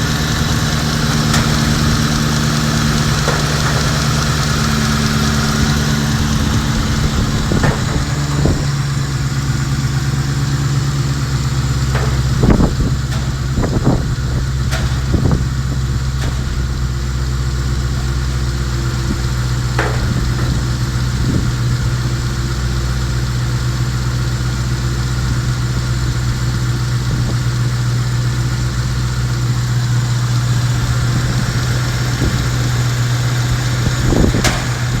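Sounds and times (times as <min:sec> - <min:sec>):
car engine idling: 0:00.0 - 0:35.0
engine throttle blips: 0:00.0 - 0:35.0.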